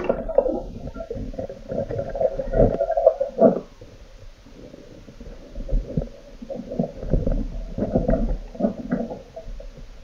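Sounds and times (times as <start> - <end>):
muffled underwater rumbling: 0.0 - 10.0.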